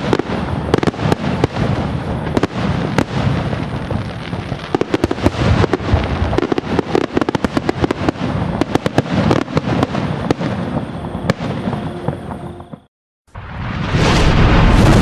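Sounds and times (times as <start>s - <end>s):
fireworks bangs: 0.0s - 15.0s
fireworks crackle: 0.0s - 15.0s.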